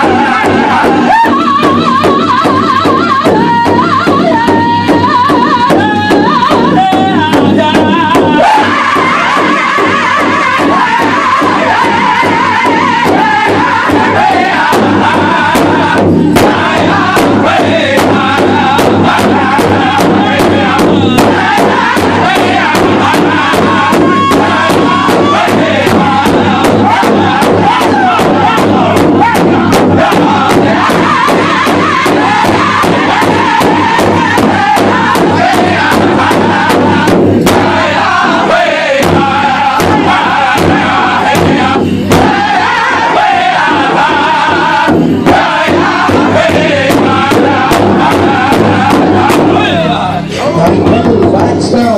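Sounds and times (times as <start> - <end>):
chorus of voices singing in unison: 0.0 - 50.6
large drum beating steadily: 0.0 - 51.9.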